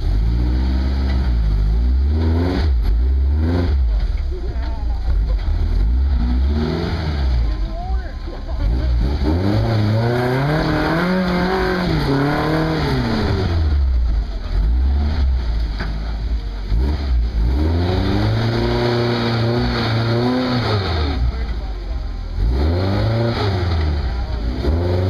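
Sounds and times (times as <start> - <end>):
pickup engine revving: 0.0 - 25.0.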